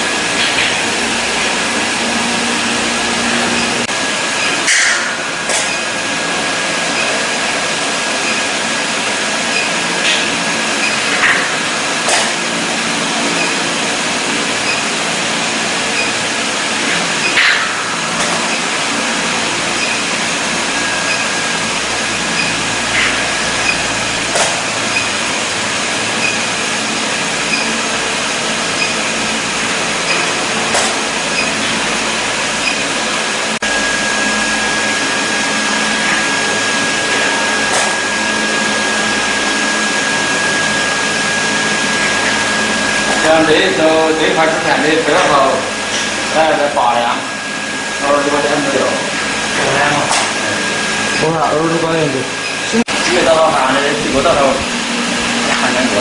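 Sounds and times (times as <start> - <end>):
steady high whine: 0.0 - 56.0
workshop machine hum and hiss: 0.0 - 56.0.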